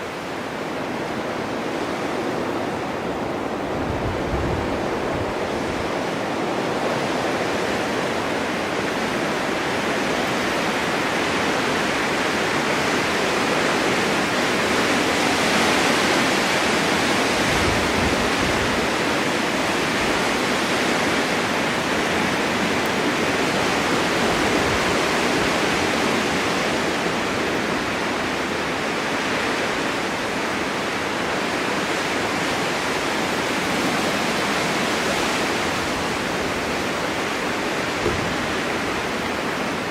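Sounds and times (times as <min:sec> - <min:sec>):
snowstorm wind rushing: 0:00.0 - 0:39.9.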